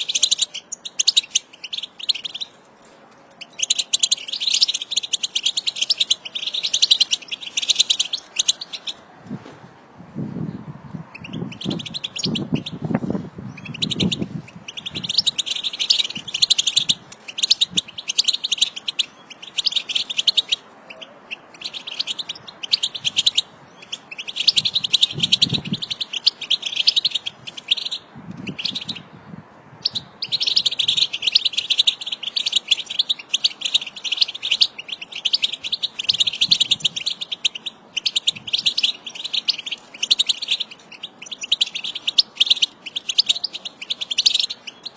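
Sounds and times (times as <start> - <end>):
birds twittering: 0.0 - 9.1, 10.4 - 44.9.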